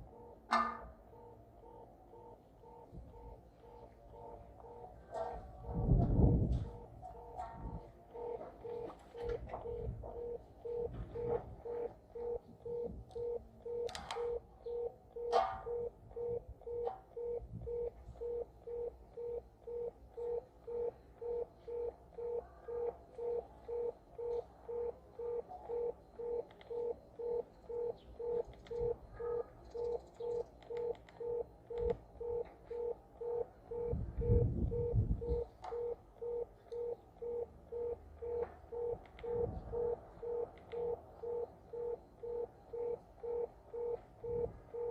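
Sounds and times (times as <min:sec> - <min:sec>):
meter beeping steadily: 0:00.0 - 0:44.9.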